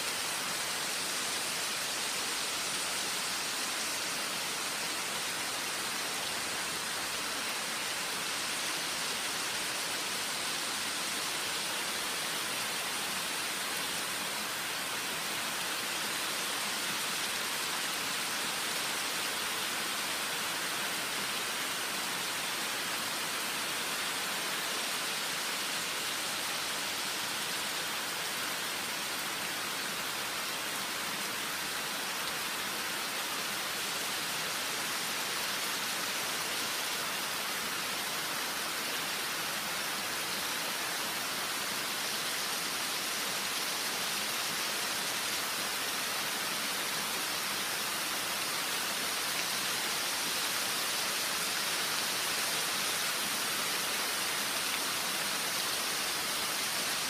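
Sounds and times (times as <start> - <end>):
rain on foliage: 0.0 - 57.0.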